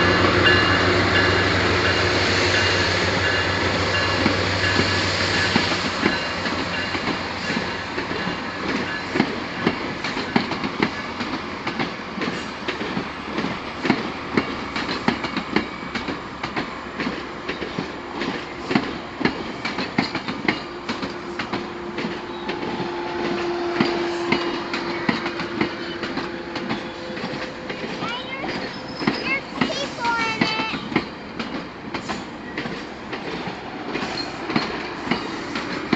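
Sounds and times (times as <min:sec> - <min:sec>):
train wheels clicking over rail joints: 0:00.0 - 0:35.9.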